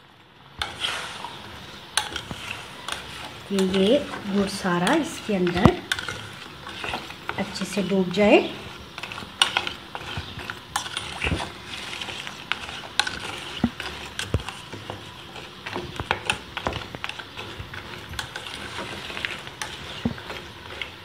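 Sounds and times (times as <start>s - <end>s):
liquid swishing: 0.6s - 21.0s
spoon scraping a metal pan: 0.6s - 21.0s.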